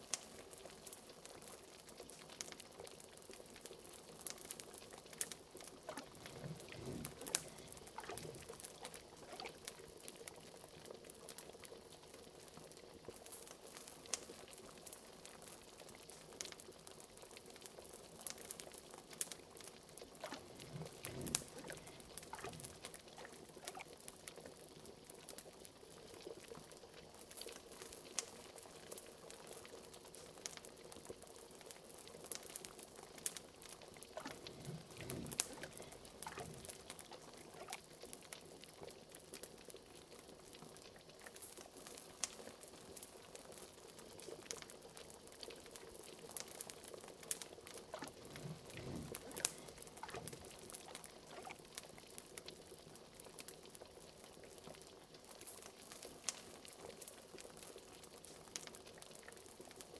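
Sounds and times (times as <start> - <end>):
liquid bubbling in a cauldron: 0.0 - 59.9
wood fire crackling: 0.0 - 59.9.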